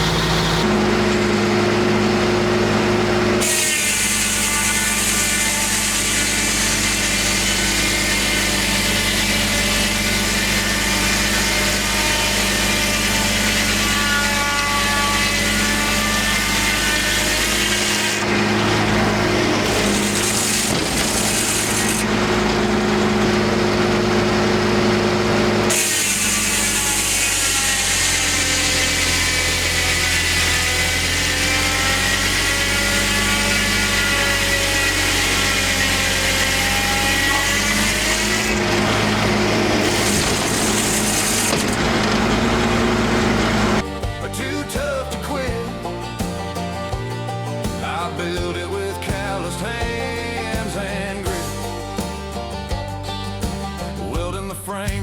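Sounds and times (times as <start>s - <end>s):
engine droning: 0.0s - 14.0s, 14.7s - 54.9s
circular saw blade cutting log: 0.0s - 52.2s.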